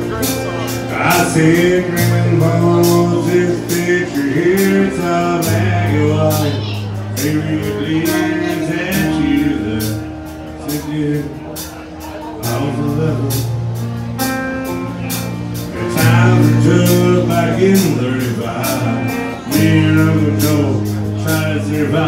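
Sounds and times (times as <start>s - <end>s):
man singing: 0.0s - 13.8s, 15.8s - 22.0s
country band playing: 0.0s - 22.0s.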